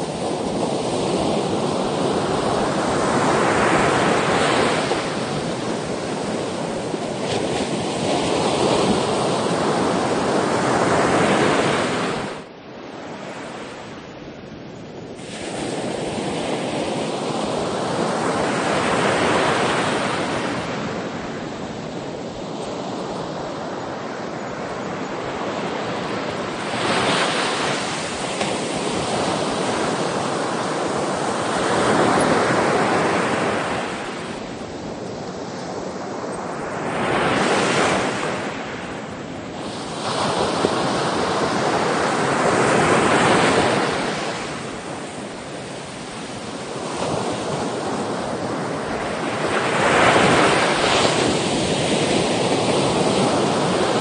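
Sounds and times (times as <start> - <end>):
sea waves breaking: 0.0 - 14.0, 15.1 - 54.0.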